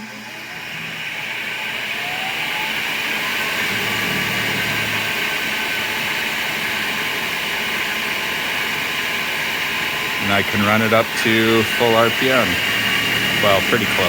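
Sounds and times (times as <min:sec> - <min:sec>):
faint motor whine: 0:00.0 - 0:14.0
lathe motor spinning up: 0:00.0 - 0:14.0.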